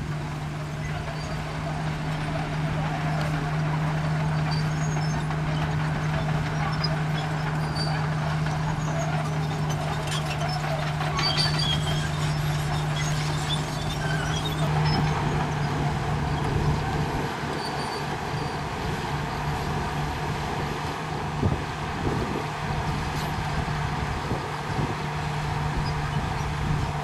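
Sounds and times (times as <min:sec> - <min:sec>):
heavy diesel engines humming: 0:00.0 - 0:27.0.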